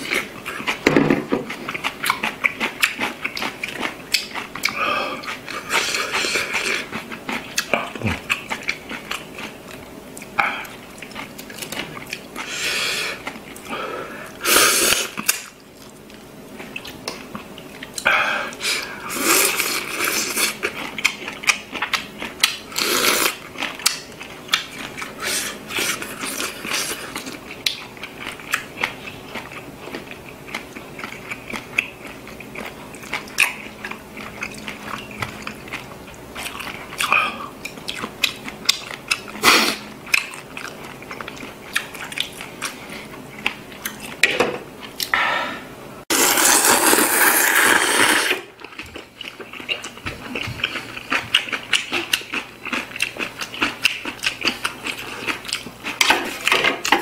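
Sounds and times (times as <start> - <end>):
man chewing and biting food: 0.0 - 45.3, 46.1 - 57.0.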